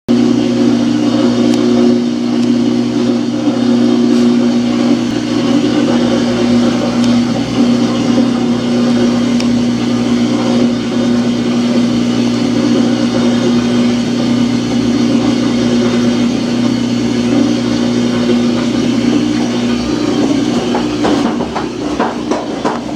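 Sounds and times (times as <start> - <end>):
washing machine droning hum: 0.1 - 22.9.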